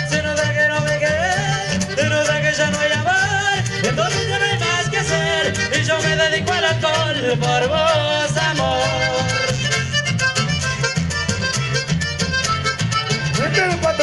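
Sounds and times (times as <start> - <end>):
accordion: 0.0 - 14.0
electric bass: 0.0 - 14.0
guitar: 0.0 - 14.0.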